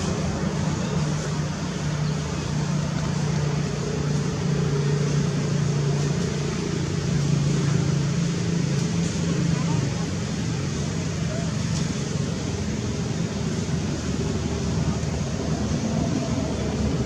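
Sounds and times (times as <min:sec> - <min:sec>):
constant hiss: 0:00.0 - 0:17.0.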